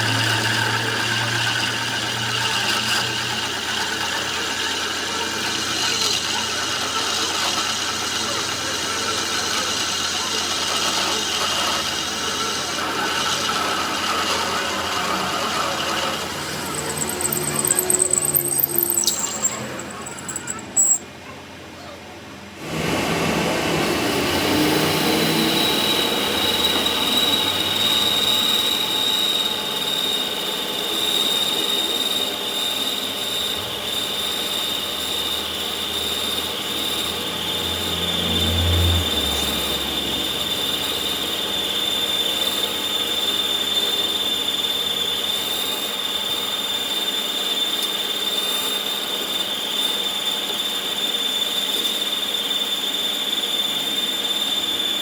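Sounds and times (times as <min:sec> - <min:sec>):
power tool high-pitched whine: 0:00.0 - 0:21.0, 0:22.6 - 0:55.0.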